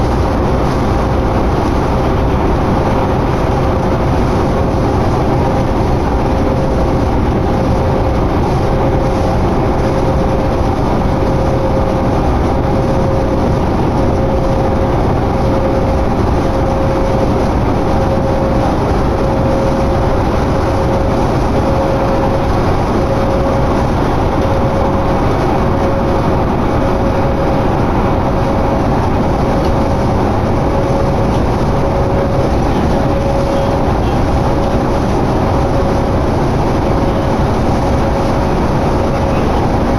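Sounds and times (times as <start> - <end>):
bus engine and road noise: 0.0 - 39.9
constant whine: 0.0 - 39.9.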